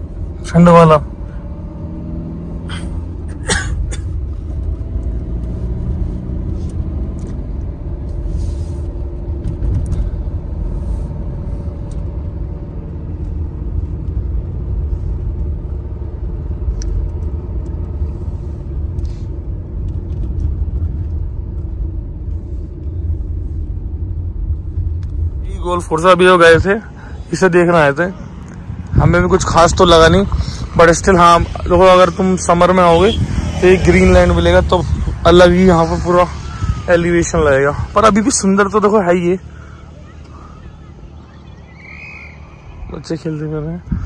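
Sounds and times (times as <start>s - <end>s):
car interior road rumble: 0.0s - 44.0s.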